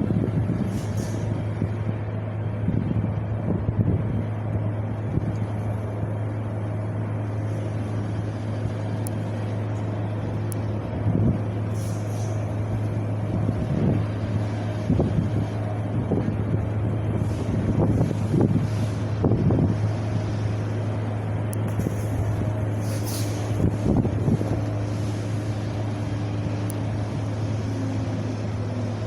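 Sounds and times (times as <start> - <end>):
wind blowing: 0.0 - 28.6.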